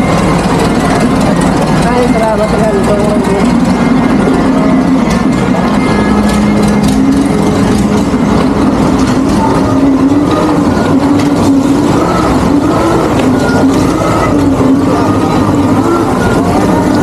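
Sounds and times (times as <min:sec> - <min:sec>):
loud engine running: 0:00.0 - 0:17.0.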